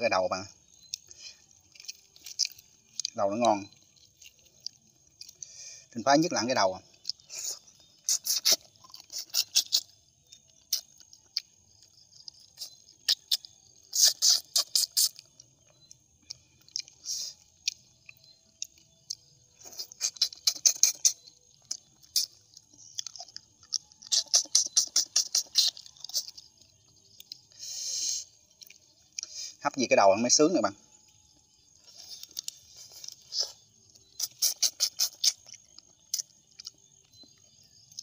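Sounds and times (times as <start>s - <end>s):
person chewing with wet crunching: 0.6s - 29.7s, 30.9s - 38.0s.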